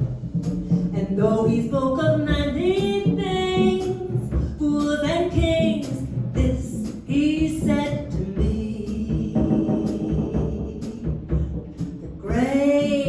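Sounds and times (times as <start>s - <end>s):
bass: 0.0s - 13.0s
drums with cymbal strokes: 0.0s - 13.0s
woman singing: 0.9s - 11.2s, 12.2s - 13.0s.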